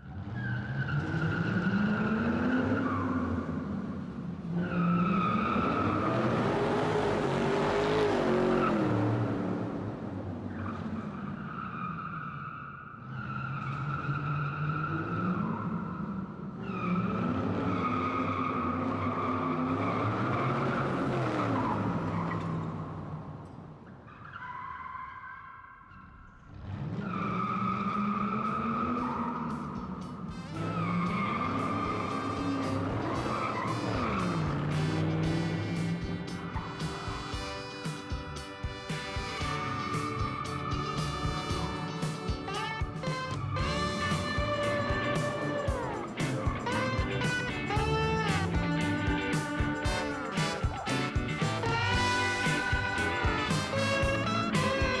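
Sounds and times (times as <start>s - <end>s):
car engine revving: 0.0s - 12.2s, 13.0s - 24.5s, 26.0s - 55.0s
tires squealing: 0.0s - 55.0s.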